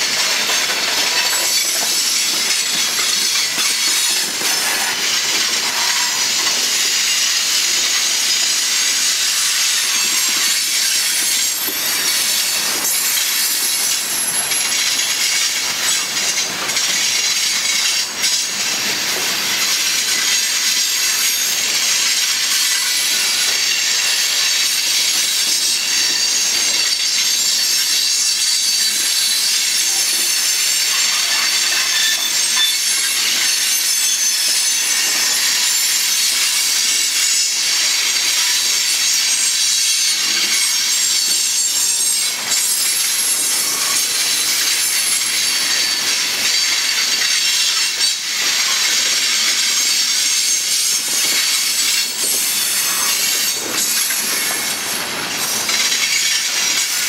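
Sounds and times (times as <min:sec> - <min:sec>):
steel wheels hissing on rails: 0:00.0 - 0:57.0.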